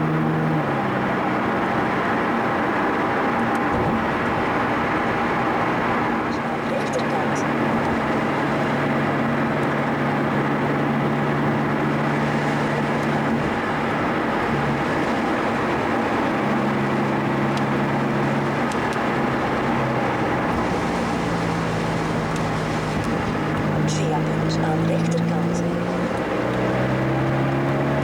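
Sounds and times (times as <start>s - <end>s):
car engine drone: 0.0s - 28.0s
road noise inside car: 0.0s - 28.0s.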